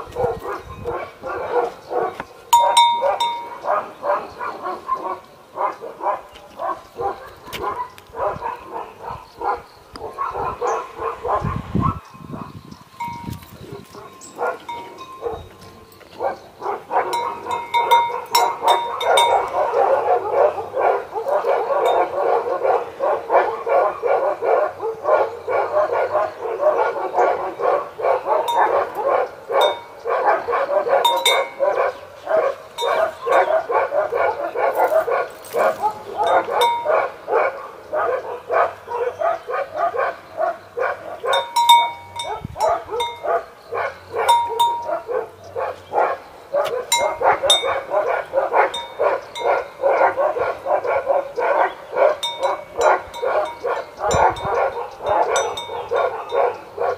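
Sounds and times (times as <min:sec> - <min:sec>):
dogs barking: 0:00.0 - 0:12.6, 0:13.7 - 0:56.9.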